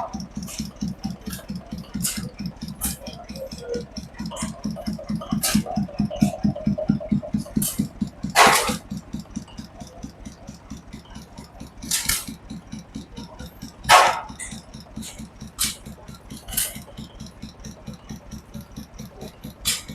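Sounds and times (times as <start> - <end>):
gas engines chugging: 0.0 - 19.9
sharp exhaust bangs: 0.0 - 19.9.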